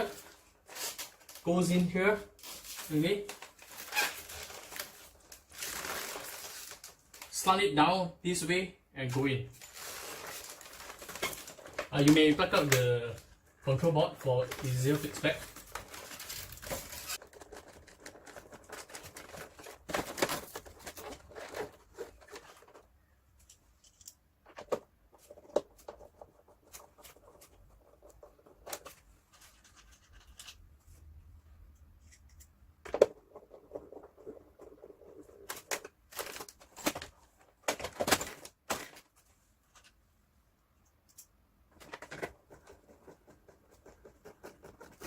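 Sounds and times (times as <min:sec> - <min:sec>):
plastic rustling and scraping: 0:00.0 - 0:07.5, 0:09.1 - 0:31.2, 0:31.9 - 0:40.0.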